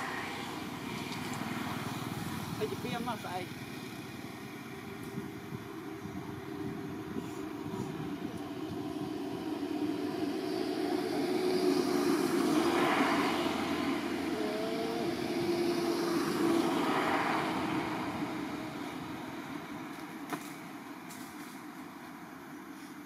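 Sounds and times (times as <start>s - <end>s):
motor engine drone: 0.0s - 20.1s.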